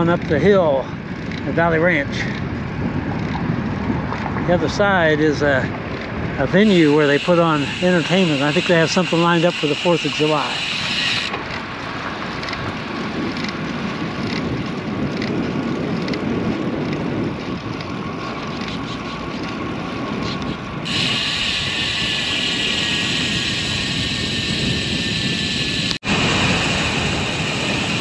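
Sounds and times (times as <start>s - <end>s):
tyre noise on concrete road: 0.0s - 28.0s
wind rushing over microphone: 0.0s - 28.0s.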